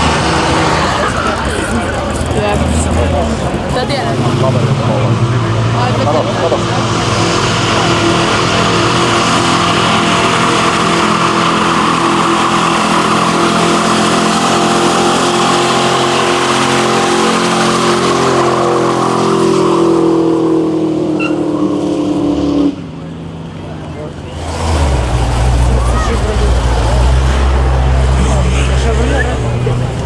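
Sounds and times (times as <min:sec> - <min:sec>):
tyres screeching on pavement: 0:00.0 - 0:20.0, 0:23.4 - 0:30.0
car engine revving high: 0:00.0 - 0:30.0.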